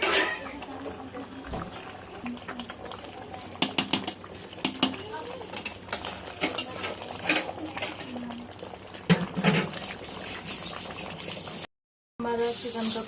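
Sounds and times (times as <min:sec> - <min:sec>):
thick gravy bubbling in a pot: 0:00.0 - 0:11.7.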